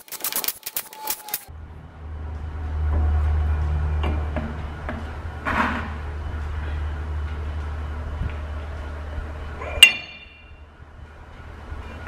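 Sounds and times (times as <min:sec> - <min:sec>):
steady low hum: 0:01.5 - 0:12.0.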